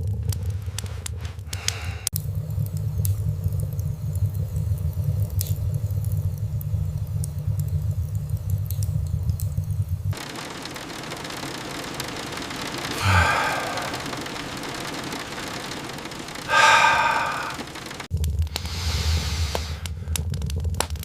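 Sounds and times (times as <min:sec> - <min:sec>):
rain hissing: 0:00.0 - 0:20.4
low rumble with crackles: 0:00.0 - 0:21.0.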